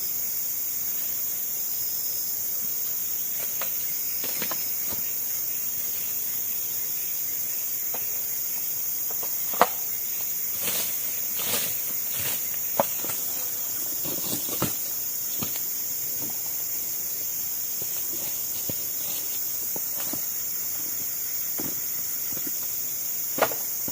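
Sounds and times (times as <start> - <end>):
forest insects droning: 0.0 - 23.9.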